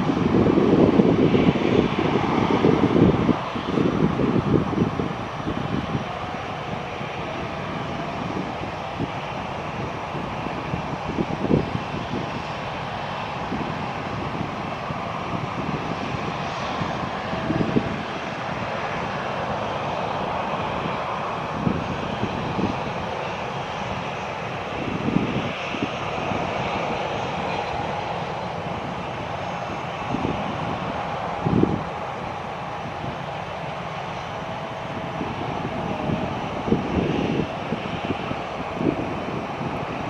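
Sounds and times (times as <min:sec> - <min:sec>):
jet airliner engine roar: 0:00.0 - 0:40.0
wind bumps on microphone: 0:00.0 - 0:40.0.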